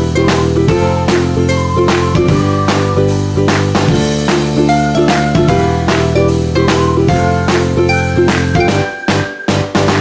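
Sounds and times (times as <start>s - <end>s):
upbeat ukulele music: 0.0s - 10.0s.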